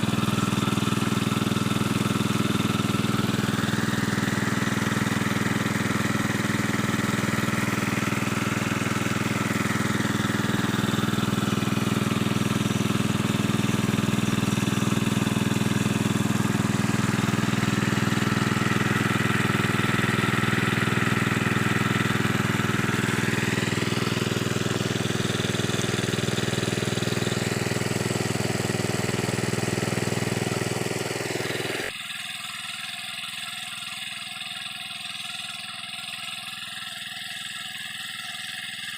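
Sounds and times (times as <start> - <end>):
water pump engine running: 0.0 - 38.9.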